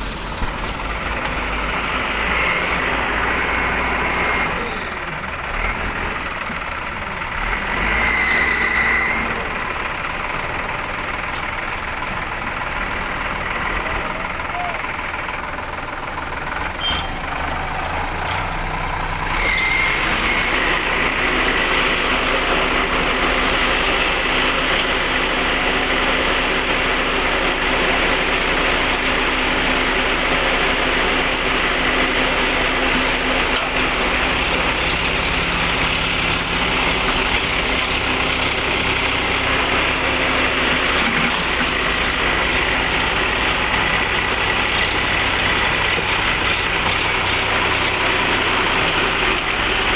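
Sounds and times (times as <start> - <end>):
diesel machinery engine running: 0.0 - 49.9.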